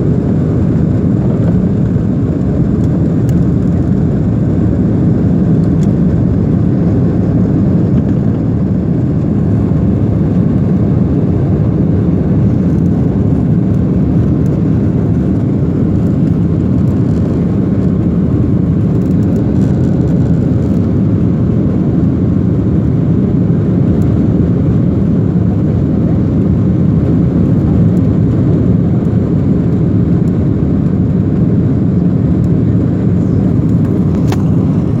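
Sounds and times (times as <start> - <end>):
airliner engine drone: 0.0 - 35.0.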